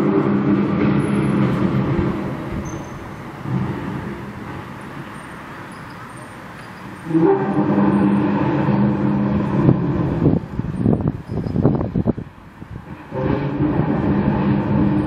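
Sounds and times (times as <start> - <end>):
low droning horn-like hum: 0.0 - 10.6, 12.9 - 15.0.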